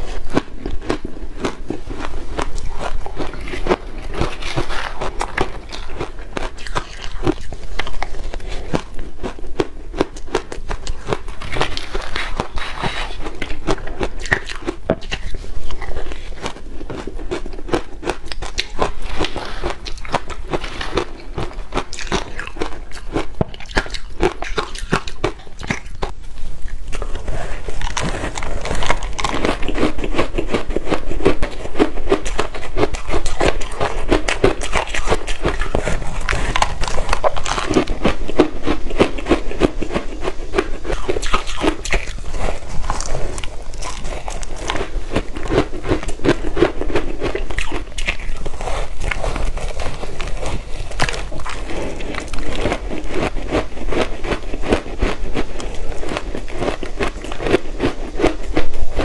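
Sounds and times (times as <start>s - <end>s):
crunching and chewing ice: 0.0s - 59.0s.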